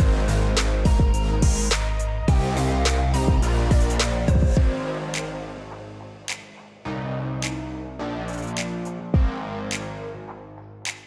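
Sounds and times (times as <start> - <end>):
electronic music with a beat: 0.0 - 11.0.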